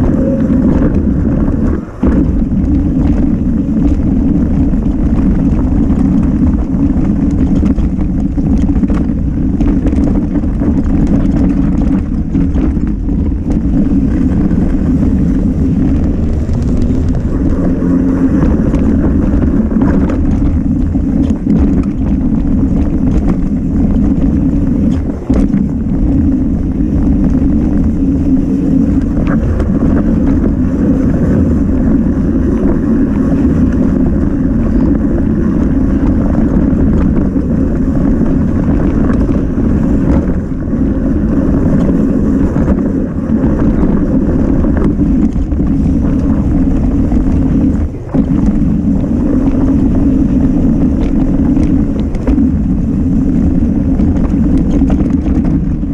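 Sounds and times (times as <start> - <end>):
bike rattling over rough trail: 0.0 - 55.9
wind rushing over microphone: 0.0 - 55.9.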